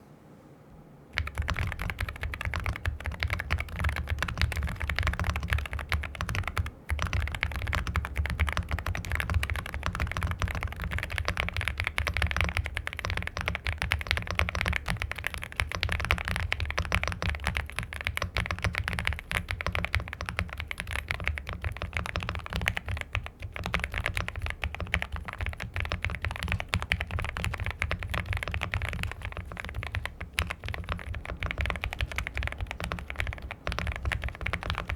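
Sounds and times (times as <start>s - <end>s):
fast typing on mechanical keyboard: 1.2s - 34.9s.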